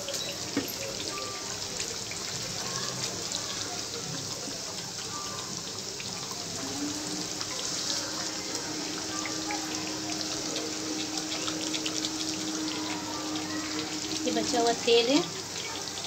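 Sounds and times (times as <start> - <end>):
gravy sizzling in a pan: 0.0 - 16.0.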